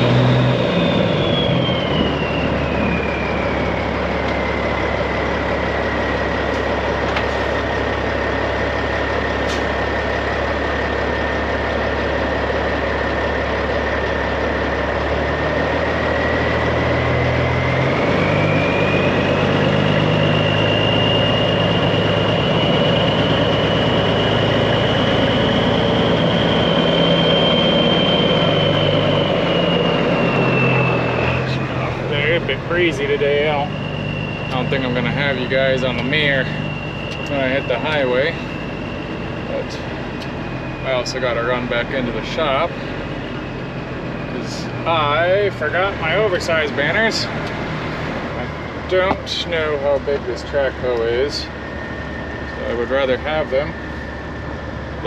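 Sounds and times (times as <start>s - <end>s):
high whistle: 0.0s - 6.3s, 16.2s - 55.0s
diesel truck engine running: 0.0s - 55.0s.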